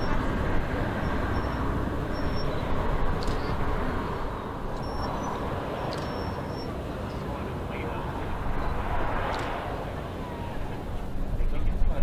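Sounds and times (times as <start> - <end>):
ferry engine rumble and wake: 0.0 - 12.0.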